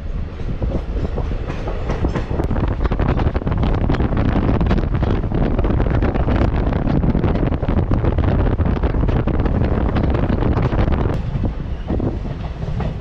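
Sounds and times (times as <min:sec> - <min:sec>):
train wheels on track: 0:00.0 - 0:13.0
wind rushing over microphone: 0:00.0 - 0:13.0.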